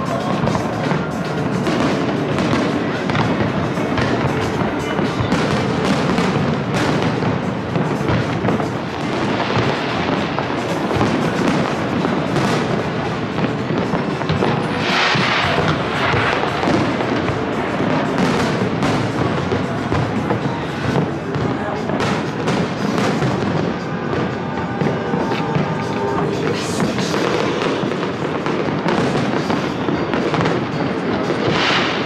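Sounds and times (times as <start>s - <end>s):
firework hiss: 0.0s - 32.0s
fireworks bursting: 0.0s - 32.0s.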